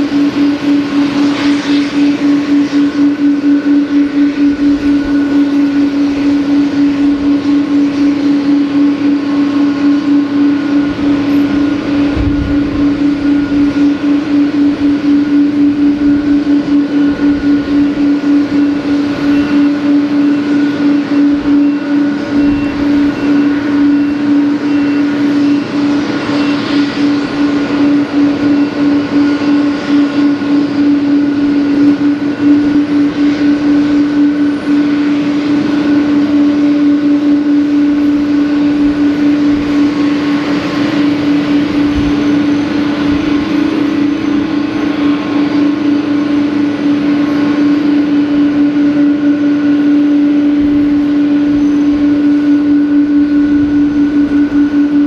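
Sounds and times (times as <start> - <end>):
loud mechanical drone: 0.0 - 55.0.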